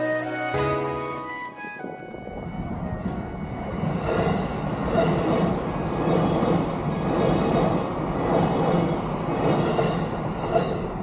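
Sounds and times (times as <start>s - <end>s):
train rumbling and clattering: 0.7s - 11.0s.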